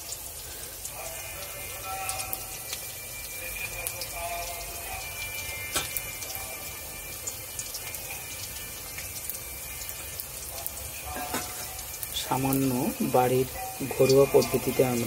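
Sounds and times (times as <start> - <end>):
oil popping and crackling: 0.0 - 15.0
pakoras sizzling in oil: 0.0 - 15.0.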